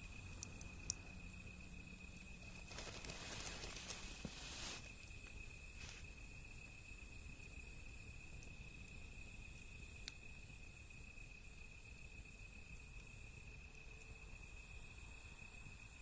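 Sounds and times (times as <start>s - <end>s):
cricket trilling: 0.0s - 16.0s
wood fire crackle: 0.0s - 16.0s.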